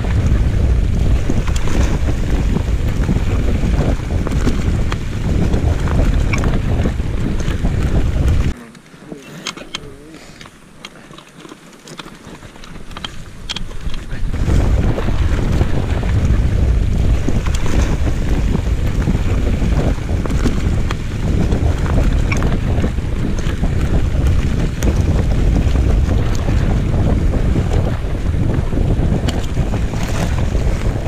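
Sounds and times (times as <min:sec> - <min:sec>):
wind buffeting microphone: 0:00.0 - 0:08.6, 0:12.5 - 0:31.0
bike clicks and rattles: 0:01.3 - 0:14.2, 0:17.3 - 0:28.0, 0:29.2 - 0:31.0.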